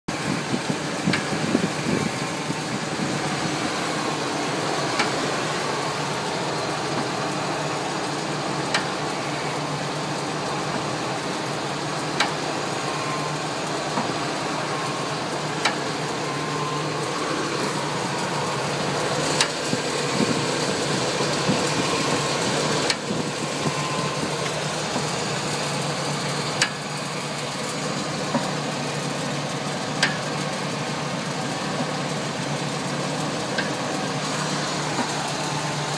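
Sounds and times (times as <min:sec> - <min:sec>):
truck engine idling: 0:00.1 - 0:35.9.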